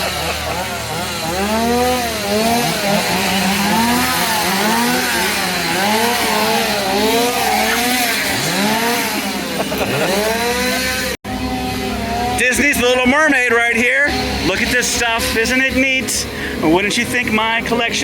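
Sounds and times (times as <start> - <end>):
small petrol engine revving: 0.0 - 18.0.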